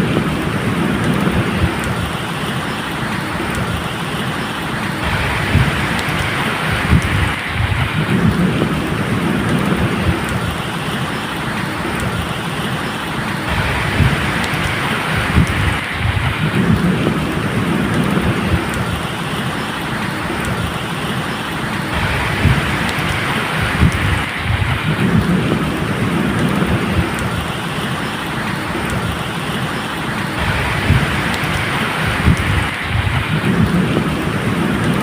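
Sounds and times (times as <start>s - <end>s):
low rolling thunder: 0.0s - 2.5s, 4.7s - 20.8s, 21.7s - 27.8s, 30.2s - 35.0s
steady rain falling: 0.0s - 35.0s.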